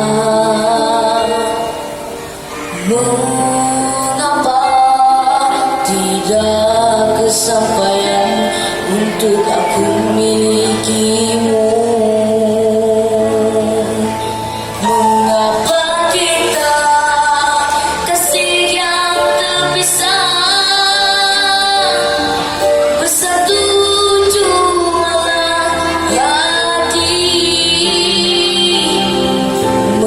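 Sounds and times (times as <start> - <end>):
high singing voice: 0.0 - 30.0
slow pop ballad: 0.0 - 30.0.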